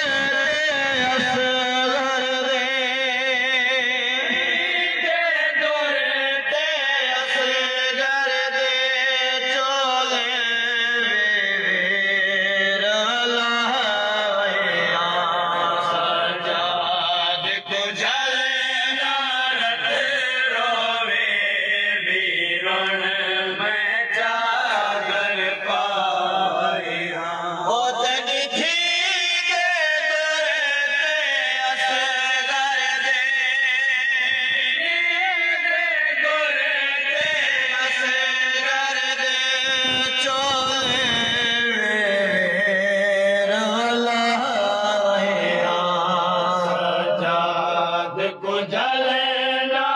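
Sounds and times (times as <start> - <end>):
men chanting in unison: 0.0 - 49.9
reciter on a microphone: 0.0 - 49.9.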